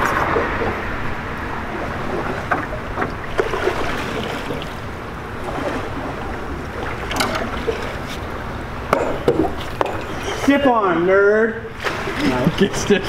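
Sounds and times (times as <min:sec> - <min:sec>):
paddle splashes: 0:00.0 - 0:10.7, 0:11.7 - 0:12.8
water rushing around boat: 0:00.0 - 0:13.0.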